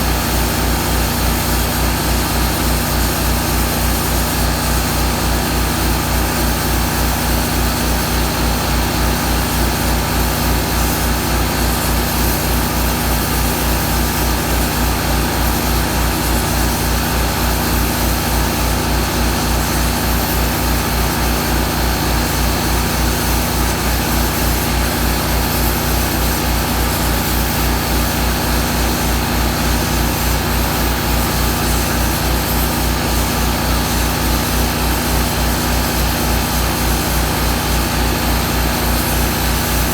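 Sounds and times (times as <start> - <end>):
piston air compressor running: 0.0 - 39.9.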